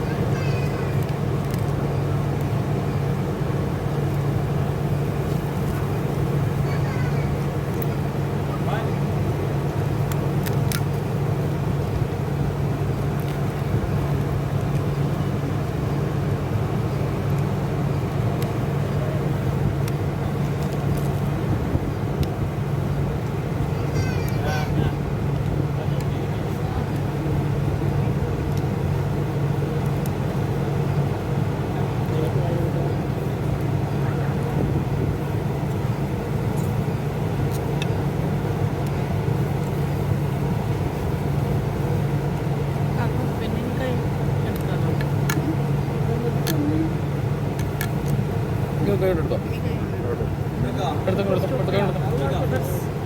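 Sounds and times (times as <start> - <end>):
low mechanical hum: 0.0 - 53.0
noisy wash: 0.0 - 53.0.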